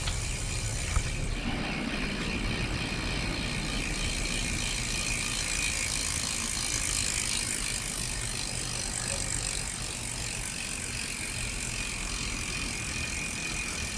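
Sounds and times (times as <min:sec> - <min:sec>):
bike freehub ratcheting clicks: 0:00.0 - 0:13.9.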